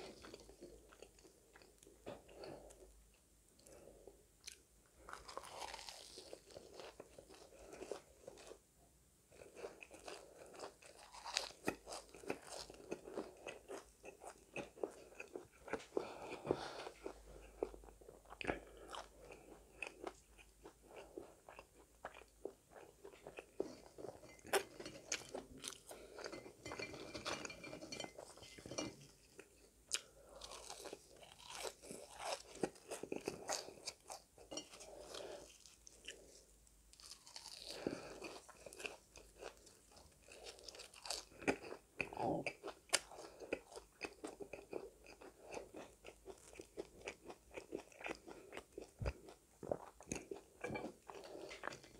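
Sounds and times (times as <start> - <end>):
chewing crisp fries: 3.6 - 8.6, 9.3 - 51.9.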